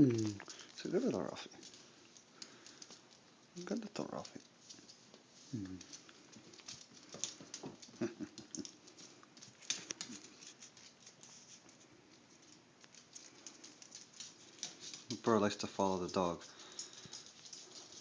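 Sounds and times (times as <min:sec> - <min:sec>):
small feet and claws pattering: 0:00.0 - 0:18.0.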